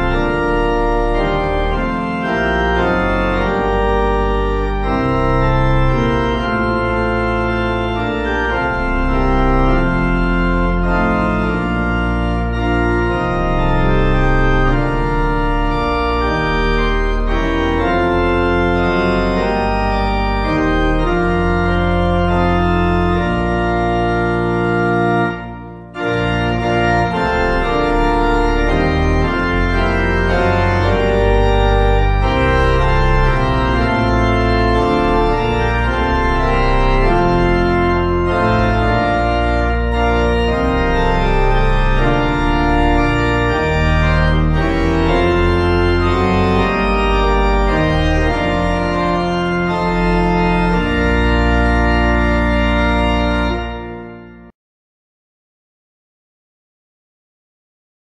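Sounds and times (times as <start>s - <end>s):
organ playing hymn chords: 0.0s - 54.6s.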